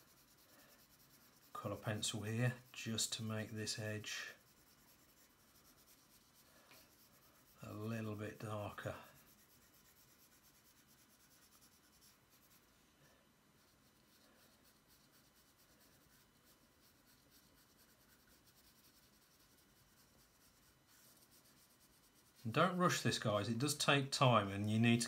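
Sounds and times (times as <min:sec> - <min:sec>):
pencil scratching on paper: 0:00.0 - 0:12.8, 0:13.6 - 0:25.0.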